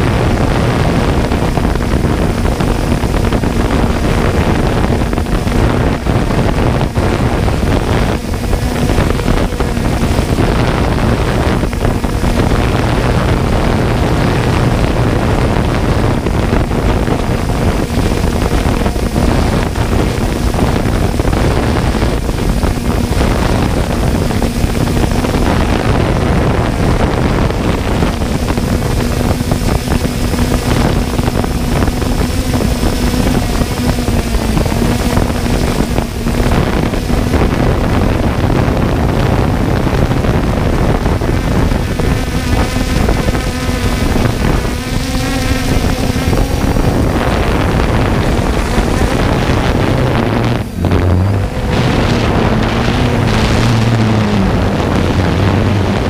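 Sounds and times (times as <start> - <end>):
drone motors humming: 0.0 - 56.0
heavy wind noise: 0.0 - 56.0.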